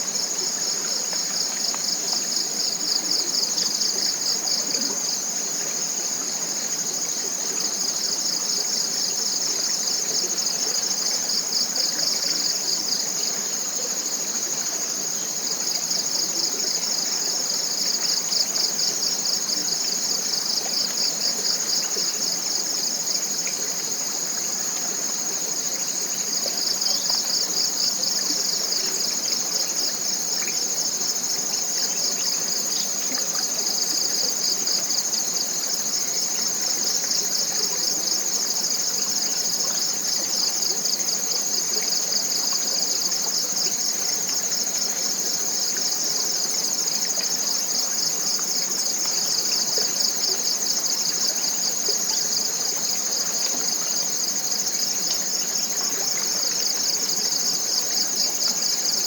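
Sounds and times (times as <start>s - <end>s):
small stream rushing: 0.0s - 59.0s.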